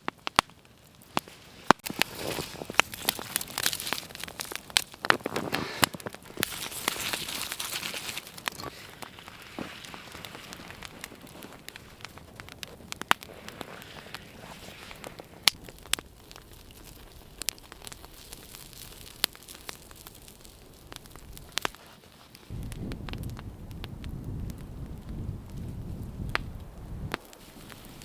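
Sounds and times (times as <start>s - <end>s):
low steady hiss: 0.0s - 28.0s
wood fire crackling: 0.0s - 28.0s.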